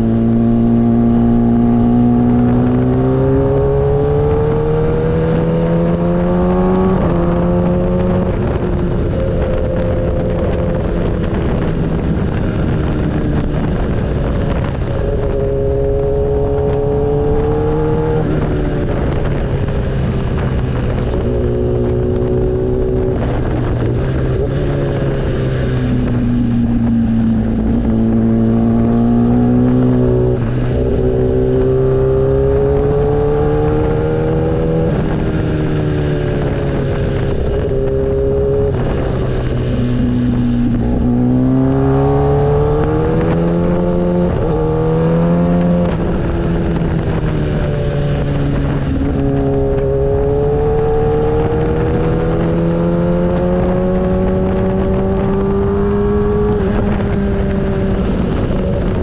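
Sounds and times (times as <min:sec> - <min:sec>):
motorcycle engine revving: 0:00.0 - 0:59.0
road noise rush: 0:00.0 - 0:59.0.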